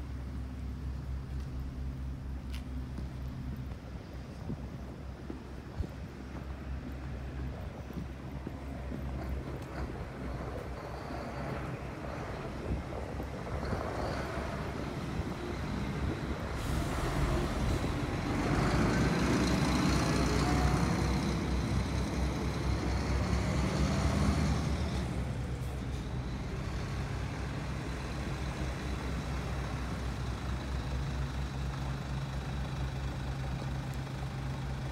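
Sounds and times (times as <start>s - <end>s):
vehicle noise: 0.0s - 34.9s.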